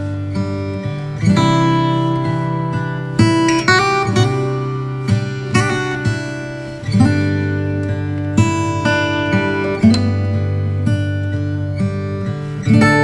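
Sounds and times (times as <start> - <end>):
strummed acoustic guitar music: 0.0 - 13.0.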